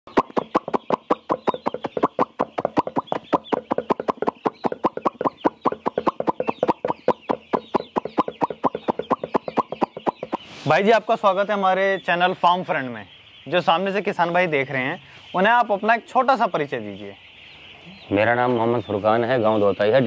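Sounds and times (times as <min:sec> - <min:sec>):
chicks peeping: 0:00.1 - 0:20.0.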